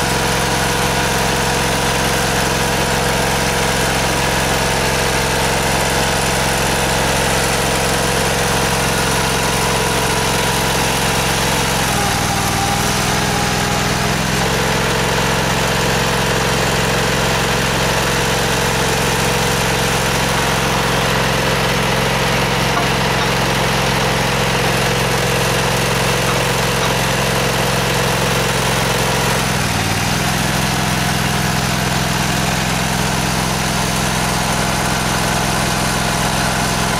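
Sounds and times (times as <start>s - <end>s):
hydraulic stone splitter engine running: 0.0s - 36.9s.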